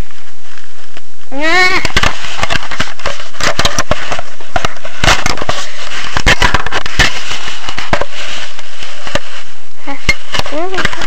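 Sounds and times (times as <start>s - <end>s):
fabric rubbing on microphone: 1.9s - 11.0s.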